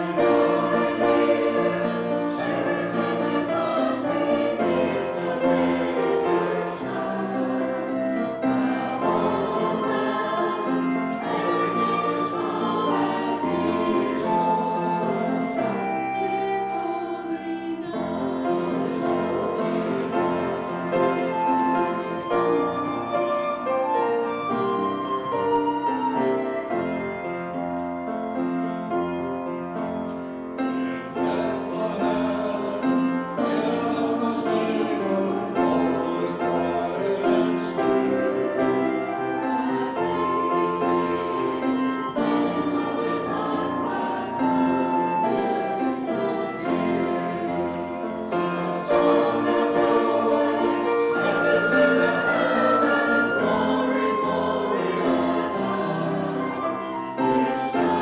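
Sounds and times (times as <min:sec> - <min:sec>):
choir singing: 0:00.0 - 0:58.0
piano accompaniment: 0:00.0 - 0:58.0.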